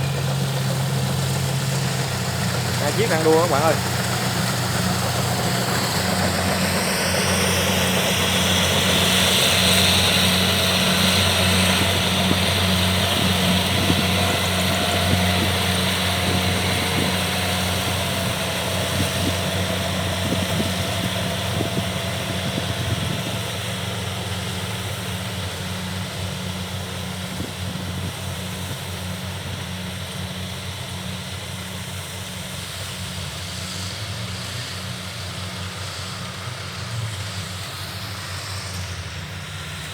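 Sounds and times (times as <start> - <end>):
diesel engine hum: 0.0 - 39.9
whir of threshing machinery: 0.0 - 39.9.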